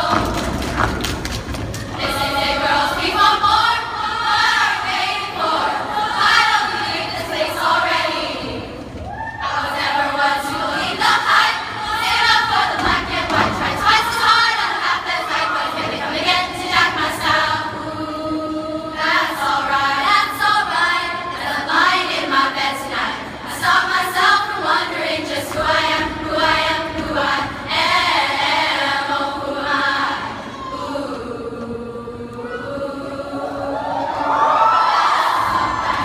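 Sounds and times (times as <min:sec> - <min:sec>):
girls' choir singing: 0:00.0 - 0:36.0.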